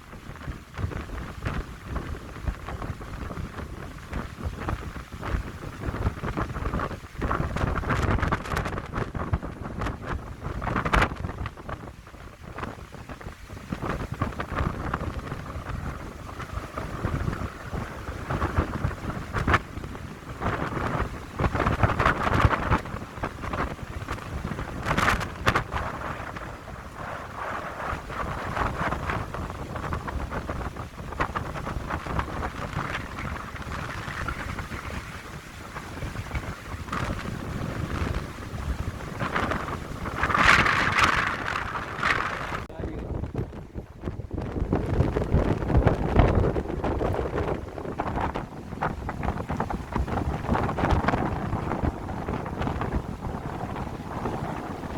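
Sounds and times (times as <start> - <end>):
wind buffeting microphone: 0.0 - 54.9
wind gusting through pines: 0.0 - 54.9.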